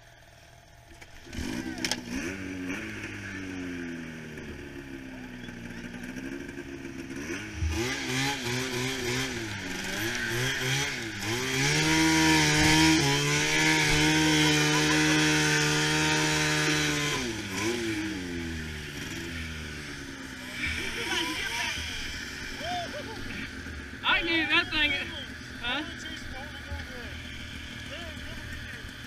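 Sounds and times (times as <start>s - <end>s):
snowmobile engine revving: 1.0s - 29.0s.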